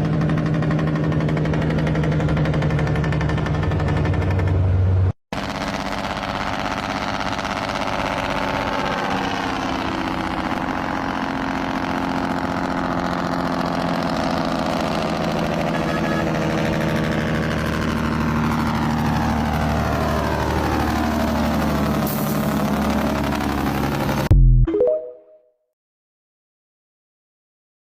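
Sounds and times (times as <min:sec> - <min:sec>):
diesel truck engine braking: 0:00.0 - 0:24.3.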